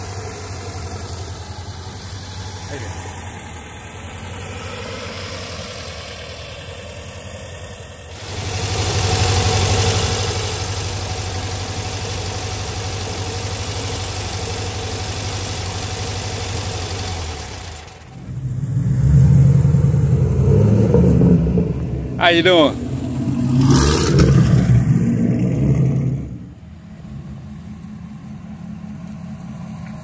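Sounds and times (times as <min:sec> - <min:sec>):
car engine idling: 0:00.0 - 0:30.0
deep engine rumble: 0:00.0 - 0:30.0.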